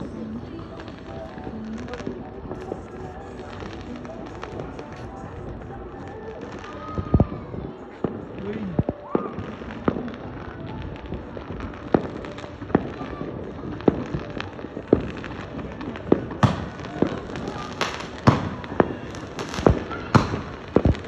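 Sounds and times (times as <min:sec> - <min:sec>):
fireworks bangs: 0:00.0 - 0:21.0
fireworks crackle: 0:00.0 - 0:21.0.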